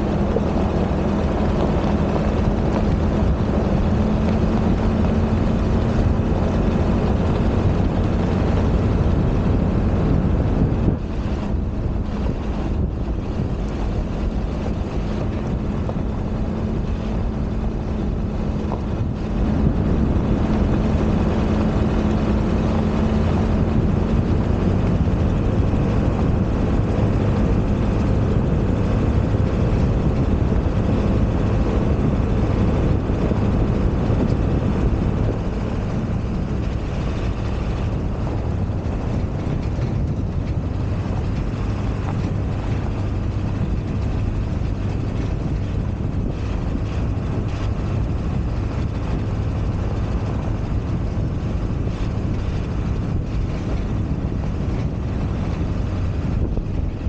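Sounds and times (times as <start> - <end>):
pickup engine drone: 0.0 - 57.0
wind noise: 0.0 - 57.0.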